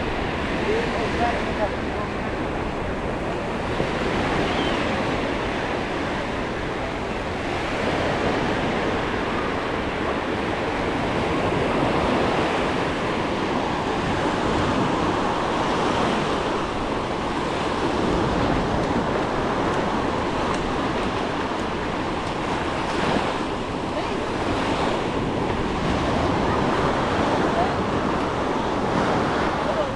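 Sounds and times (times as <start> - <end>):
waves washing onto sand: 0.0 - 29.9.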